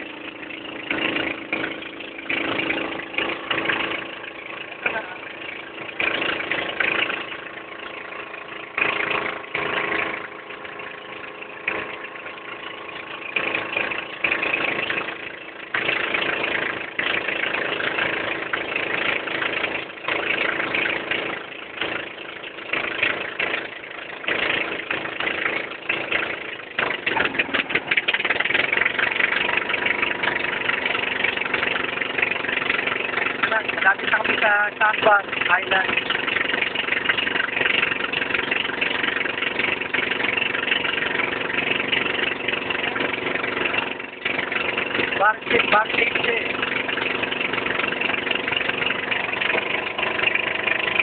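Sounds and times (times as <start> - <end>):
boat engine running: 0.0 - 51.0
water noise: 0.0 - 51.0.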